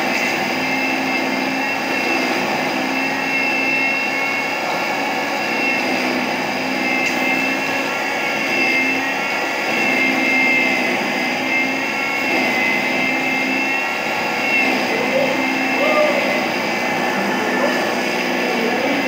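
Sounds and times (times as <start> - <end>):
mixer grinder whining: 0.0 - 19.0.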